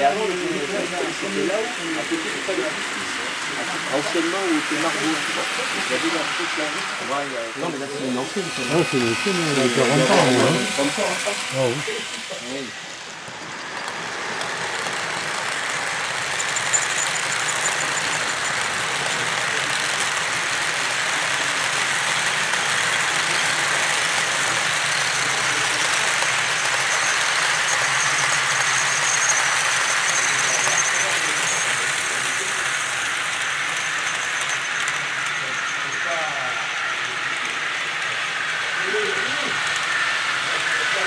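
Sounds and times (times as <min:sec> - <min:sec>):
model train running on track: 0:00.0 - 0:41.0.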